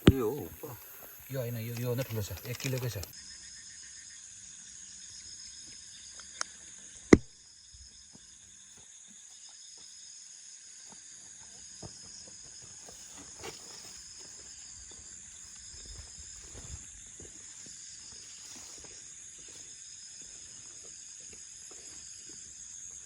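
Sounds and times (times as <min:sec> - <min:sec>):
night insects chorus: 0:00.0 - 0:23.0.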